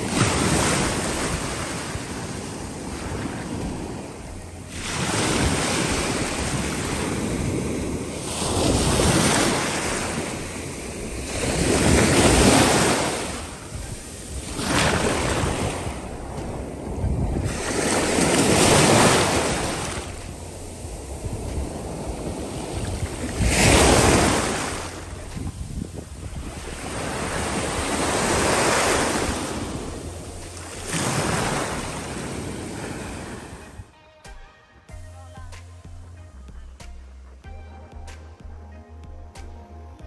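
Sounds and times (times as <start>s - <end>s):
sea waves breaking: 0.0s - 33.9s
wind buffeting microphone: 0.0s - 33.9s.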